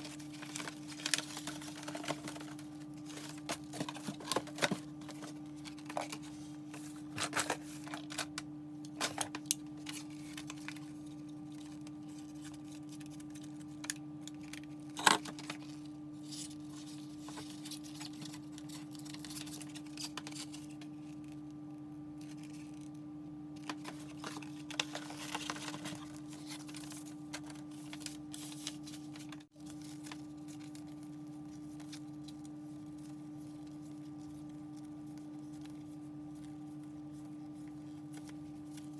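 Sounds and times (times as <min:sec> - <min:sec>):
paper rustling and small items tapping: 0:00.0 - 0:21.4, 0:23.6 - 0:38.9
steady electrical hum: 0:00.0 - 0:38.9.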